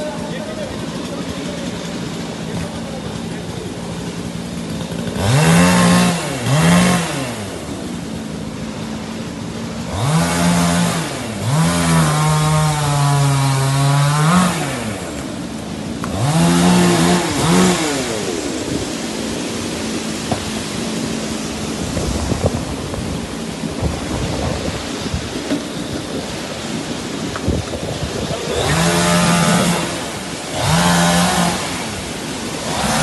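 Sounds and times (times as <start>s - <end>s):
chainsaw revving: 0.0s - 33.0s.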